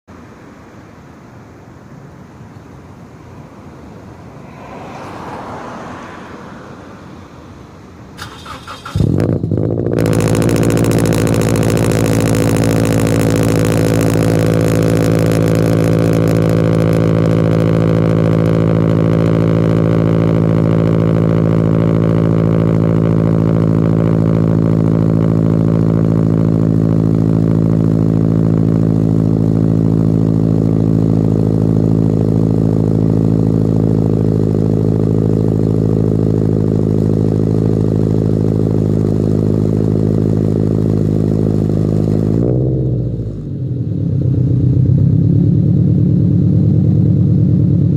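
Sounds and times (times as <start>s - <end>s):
car engine cranking and idling: 3.8s - 47.9s.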